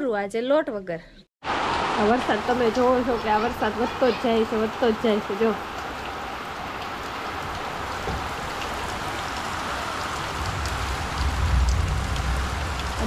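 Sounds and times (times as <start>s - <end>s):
rain on a tiled roof: 1.4s - 13.0s
water drips: 1.5s - 13.0s.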